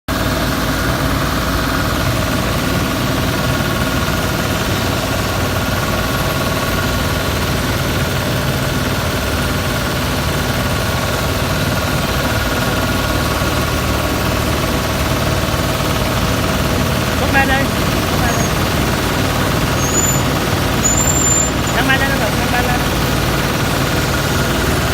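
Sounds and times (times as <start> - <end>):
concrete saw engine running: 0.1 - 24.9.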